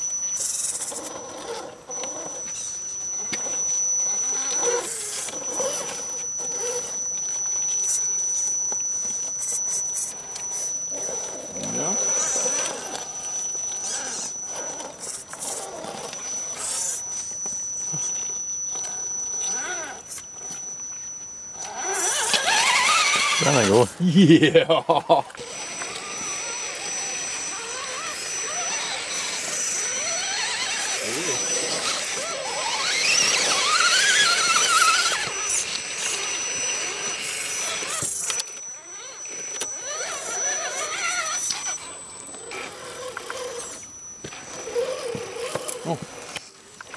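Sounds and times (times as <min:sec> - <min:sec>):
electric motor whining: 0:00.0 - 0:46.9
steady high-pitched whine: 0:00.0 - 0:46.9
thin high steady tone: 0:00.0 - 0:46.9.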